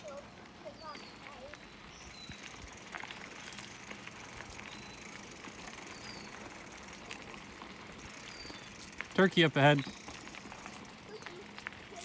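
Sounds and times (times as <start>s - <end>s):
bicycle tyres on dirt: 0.0s - 12.0s
small clicks and rattles: 0.0s - 12.0s.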